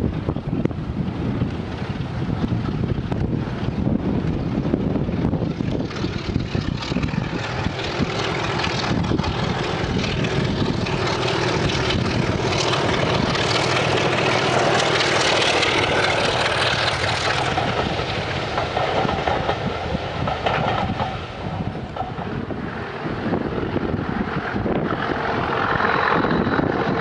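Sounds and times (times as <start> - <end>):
diesel locomotive engine working hard: 0.0 - 27.0
wheel and rail noise: 0.0 - 27.0.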